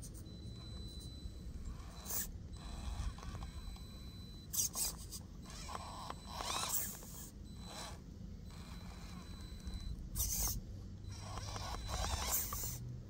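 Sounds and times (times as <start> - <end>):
electric motor whining: 0.4 - 13.0.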